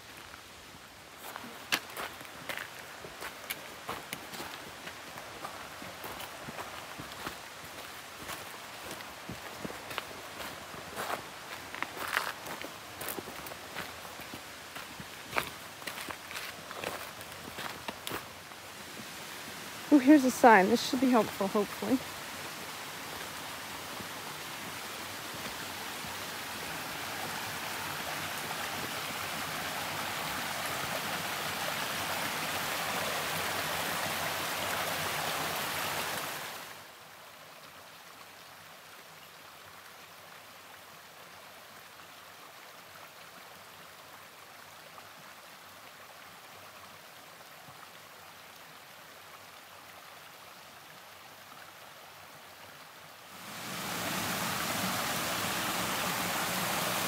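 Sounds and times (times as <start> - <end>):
rushing stream water: 0.0 - 57.0.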